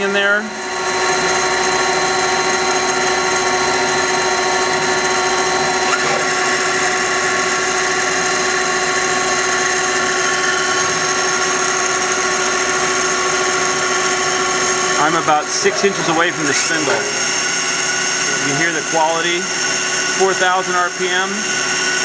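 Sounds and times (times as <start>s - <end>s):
lathe spindle whine: 0.0s - 22.0s.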